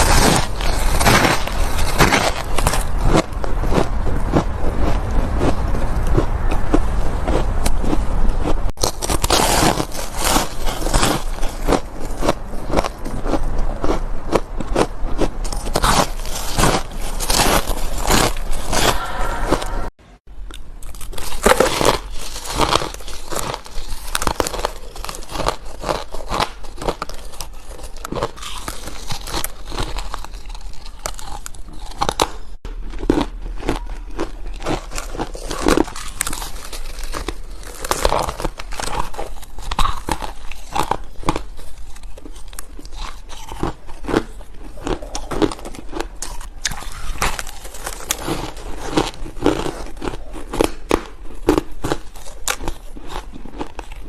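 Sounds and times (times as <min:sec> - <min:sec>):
crunching and chewing ice: 0:00.0 - 0:19.1, 0:20.4 - 0:54.0.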